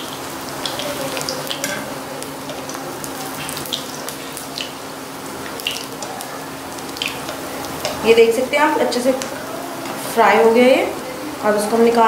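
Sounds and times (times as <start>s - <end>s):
bread deep-frying in hot oil: 0.0s - 12.0s.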